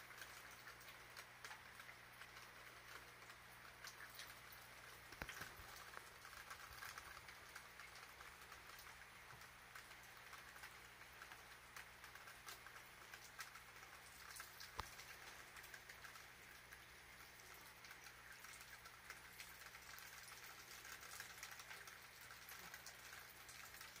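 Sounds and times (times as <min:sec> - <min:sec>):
faint room hiss: 0:00.0 - 0:24.0.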